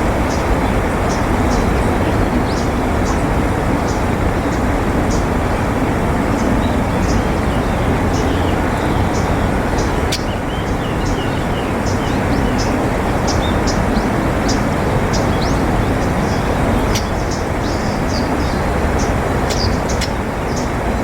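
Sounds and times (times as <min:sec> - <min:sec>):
low rumbling background noise: 0:00.0 - 0:21.0
small birds chirping: 0:00.2 - 0:21.0.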